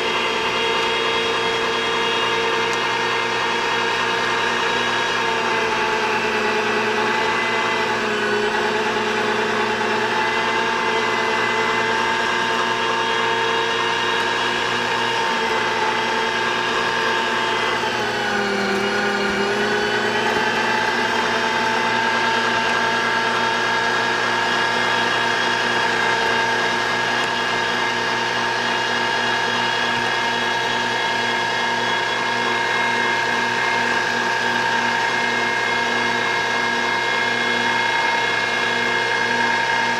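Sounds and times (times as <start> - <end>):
meat grinder motor whining: 0.0 - 39.9.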